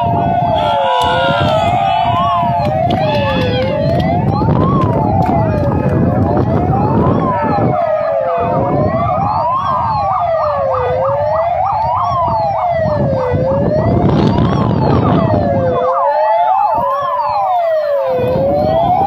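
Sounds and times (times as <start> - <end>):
siren wailing: 0.0 - 19.0
yelping sirens: 0.0 - 19.0.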